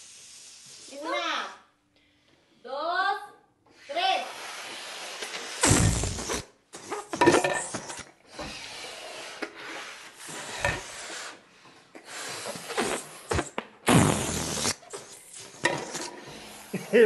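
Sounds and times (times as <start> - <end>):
air rushing out of balloons: 0.0 - 1.2, 3.8 - 17.0.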